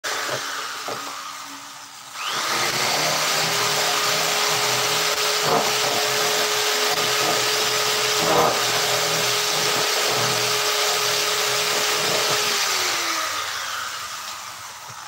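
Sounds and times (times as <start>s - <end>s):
small electric motor whining: 0.1s - 15.0s.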